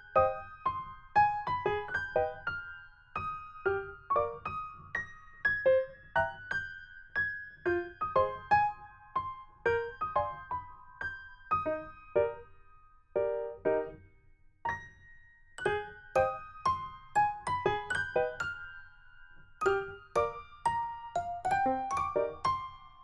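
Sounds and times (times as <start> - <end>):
light piano melody: 0.0 - 23.0.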